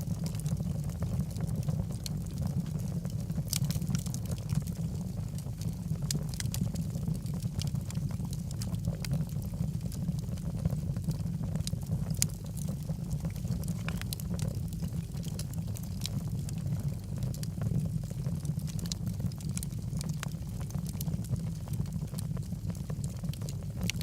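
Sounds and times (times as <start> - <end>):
burning wood crackling and popping: 0.0 - 24.0
low rumble of flames: 0.0 - 24.0.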